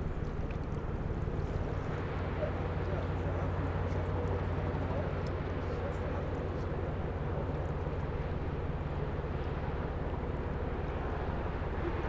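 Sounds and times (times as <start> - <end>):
ship engine droning: 0.0 - 12.0
wash of noise: 0.0 - 12.0.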